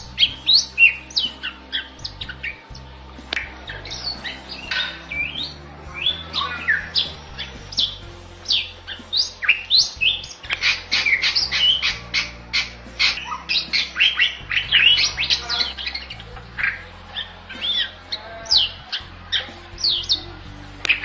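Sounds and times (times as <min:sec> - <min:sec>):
bird whistling and chattering: 0:03.4 - 0:20.2.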